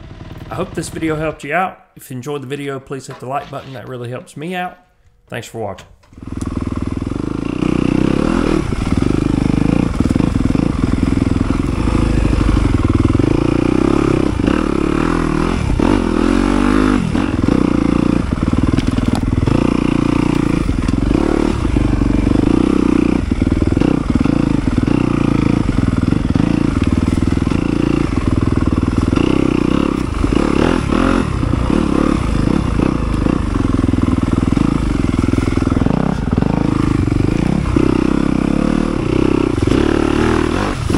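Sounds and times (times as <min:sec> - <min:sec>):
dirt bike engine revving: 0:06.2 - 0:40.9.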